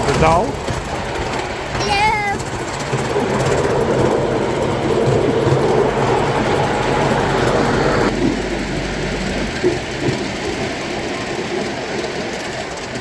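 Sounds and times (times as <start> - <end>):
miniature train rumbling on track: 0.0 - 13.0.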